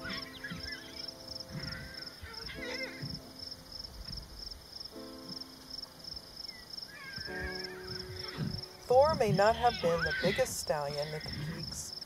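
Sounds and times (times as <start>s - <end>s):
soft sustained music notes: 0.0s - 11.9s
insect chirping: 0.0s - 12.0s.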